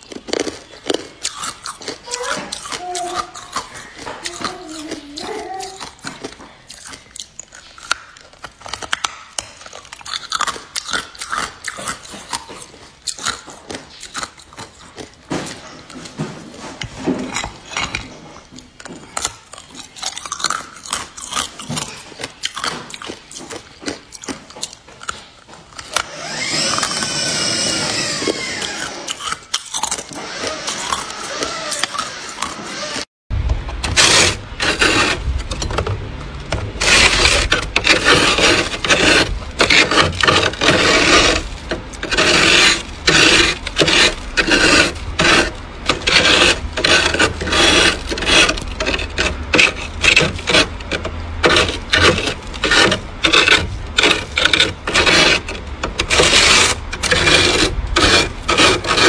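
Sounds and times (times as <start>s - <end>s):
spoon scraping frost: 0.0s - 33.1s, 33.8s - 59.0s.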